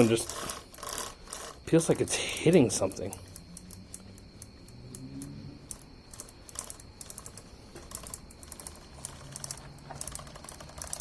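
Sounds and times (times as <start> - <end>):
saw chain clicking and crunching: 0.0 - 11.0.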